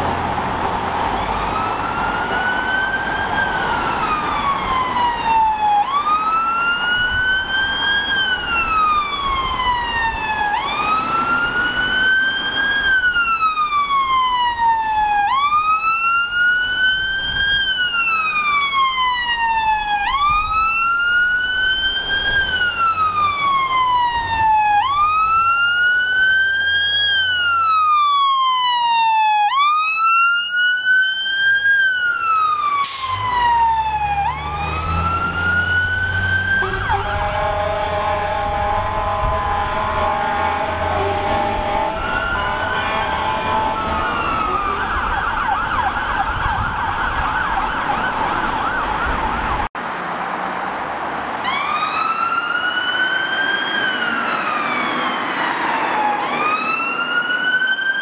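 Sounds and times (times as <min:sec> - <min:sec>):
fire engine siren wailing: 0:00.0 - 0:49.8, 0:51.2 - 0:58.0
low road traffic noise: 0:00.0 - 0:58.0.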